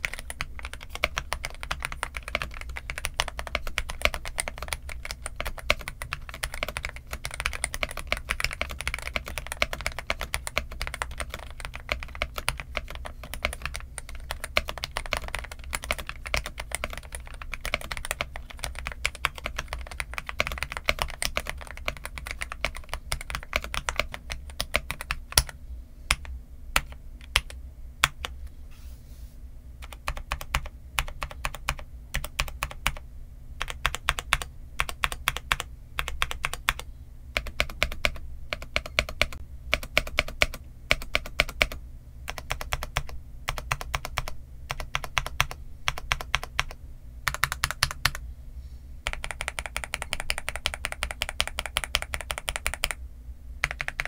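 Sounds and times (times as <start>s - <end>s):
mechanical keyboard typing: 0.0s - 28.4s, 29.8s - 33.0s, 33.6s - 48.2s, 49.0s - 53.0s, 53.6s - 54.0s.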